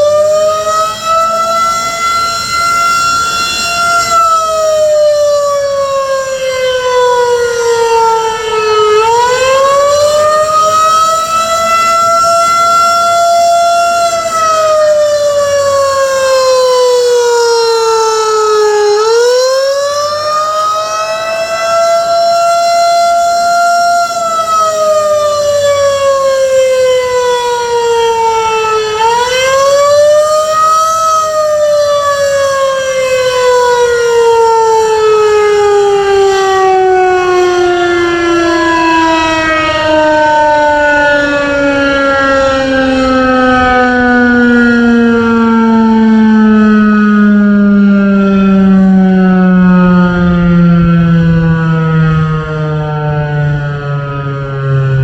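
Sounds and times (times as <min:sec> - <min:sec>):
warning siren wailing: 0:00.0 - 0:55.0.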